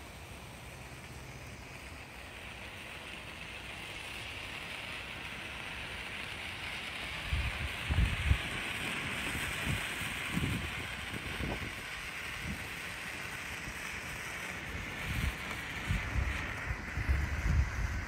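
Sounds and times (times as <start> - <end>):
firework burning with a hiss: 0.0 - 18.0.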